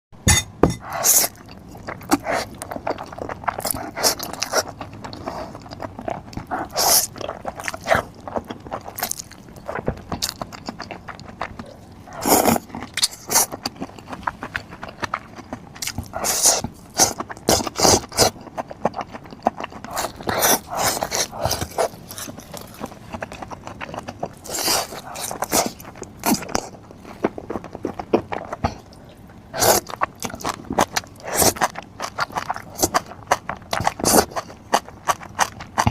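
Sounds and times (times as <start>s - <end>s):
person chewing: 0.3s - 35.9s
eating clicks and scrapes: 0.8s - 35.9s.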